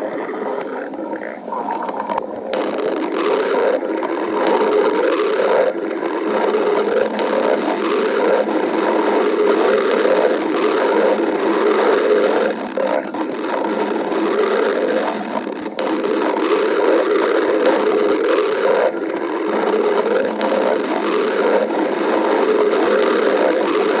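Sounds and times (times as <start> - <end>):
stomach growling: 0.0 - 24.0.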